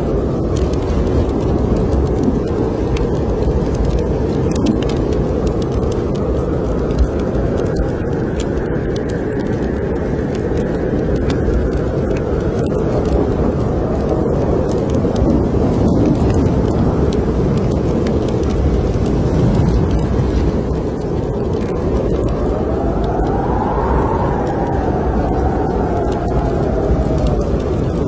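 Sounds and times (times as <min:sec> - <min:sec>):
wind blowing: 0:00.0 - 0:28.0
wood fire crackling and popping: 0:00.0 - 0:28.0.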